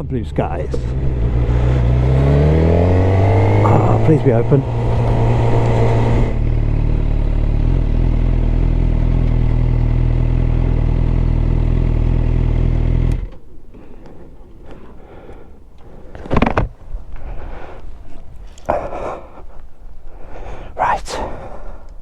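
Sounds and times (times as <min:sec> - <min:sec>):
motorcycle engine idling: 0:00.5 - 0:20.2.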